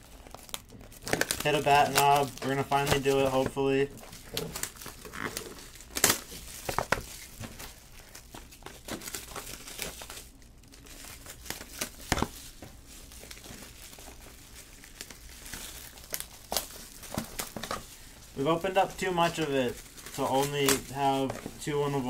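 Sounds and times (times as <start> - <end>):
shrink-wrap crinkling and tearing: 0.0 - 22.0.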